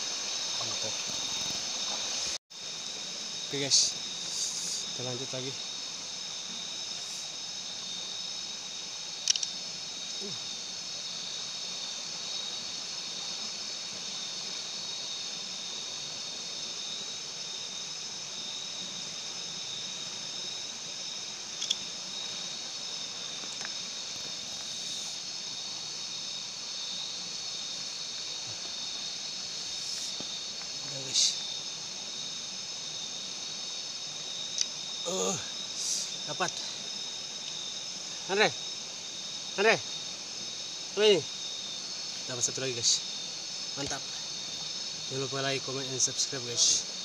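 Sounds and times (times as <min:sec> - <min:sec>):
night insects chorus: 0:00.0 - 0:47.0.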